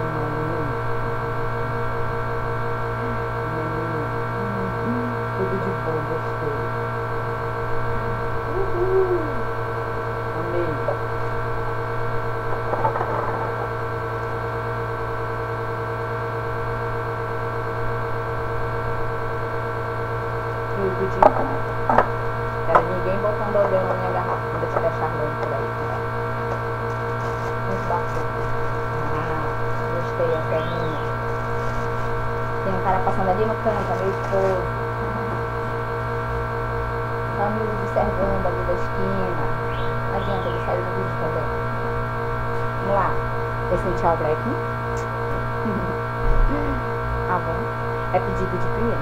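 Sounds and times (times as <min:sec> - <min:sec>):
electric fan humming: 0:00.0 - 0:49.0.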